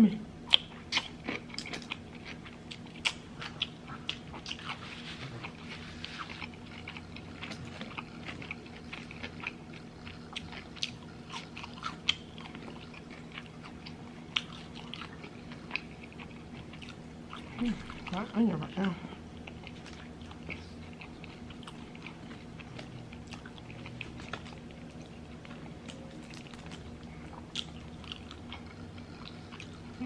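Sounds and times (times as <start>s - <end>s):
faint low hum: 0.0s - 30.0s
person chewing food: 0.4s - 30.0s.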